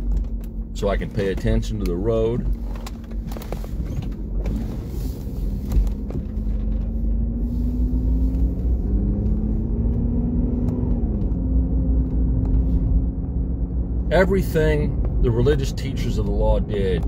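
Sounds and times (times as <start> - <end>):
car engine accelerating: 0.0 - 17.0
road rumble: 0.0 - 17.0.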